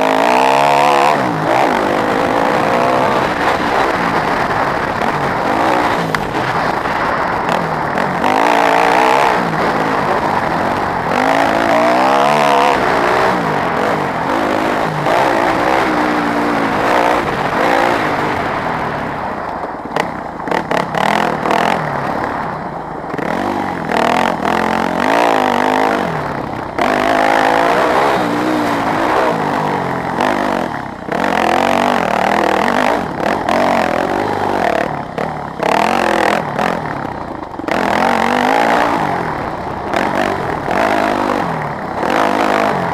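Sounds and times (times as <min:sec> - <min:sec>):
dirt bike engine revving: 0:00.0 - 0:19.4, 0:20.0 - 0:42.9.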